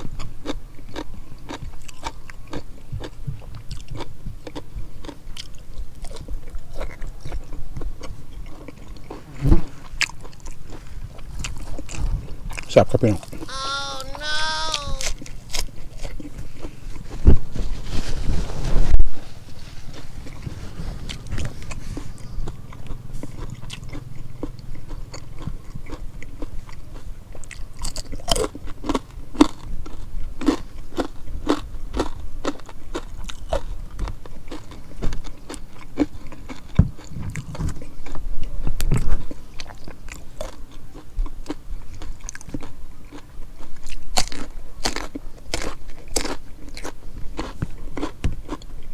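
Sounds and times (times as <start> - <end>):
person chewing and crunching food: 0.0 - 17.1, 19.8 - 48.9.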